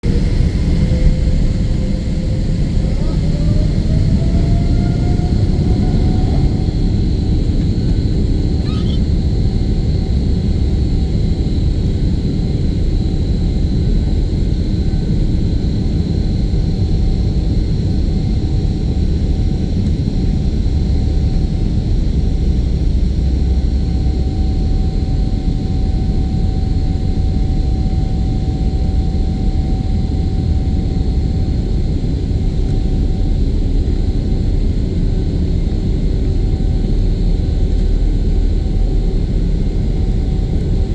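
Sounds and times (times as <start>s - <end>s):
jet engine whine: 0.0s - 40.9s
jet engines rumbling in cabin: 0.0s - 40.9s.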